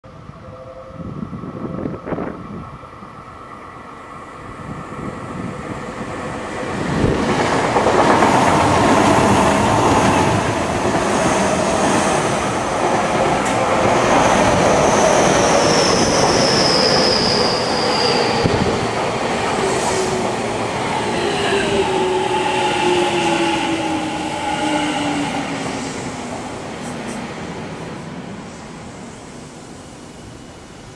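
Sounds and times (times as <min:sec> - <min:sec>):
electric trains passing: 0:00.1 - 0:30.9.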